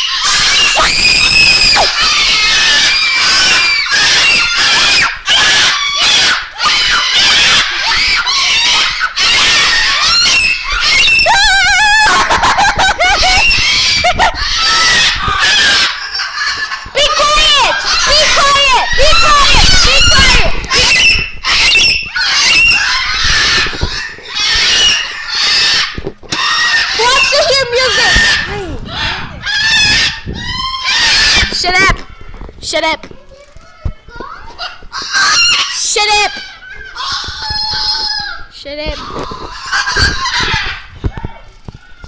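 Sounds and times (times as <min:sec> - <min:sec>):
birds screaming: 0:00.0 - 0:32.5, 0:34.4 - 0:42.0.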